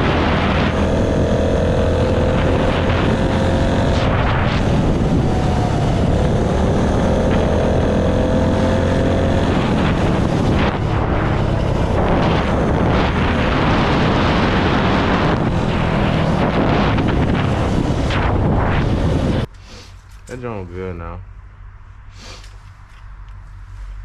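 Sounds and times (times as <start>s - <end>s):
wind noise on microphone: 0.0s - 20.4s.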